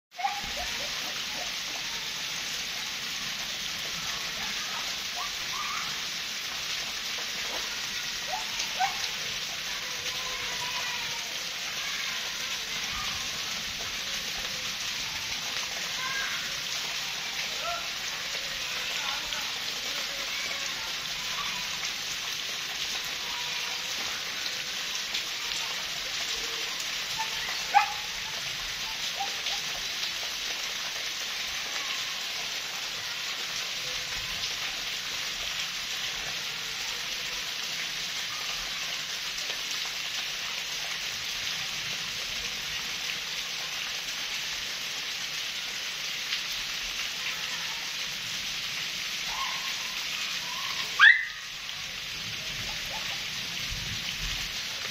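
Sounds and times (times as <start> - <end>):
rain falling on ground: 0.1 - 54.9.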